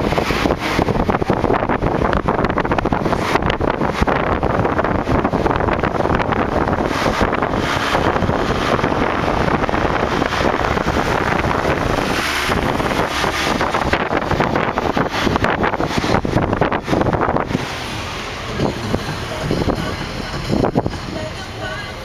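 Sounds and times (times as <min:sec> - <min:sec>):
wind buffeting microphone: 0:00.0 - 0:21.7
vehicle road noise: 0:00.0 - 0:22.0.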